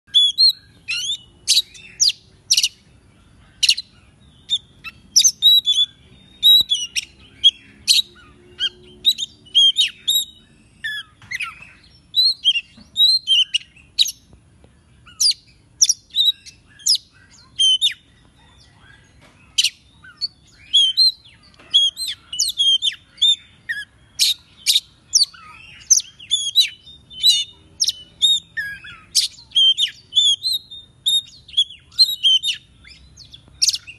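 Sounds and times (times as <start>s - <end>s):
bird singing whistled notes: 0.1s - 33.9s.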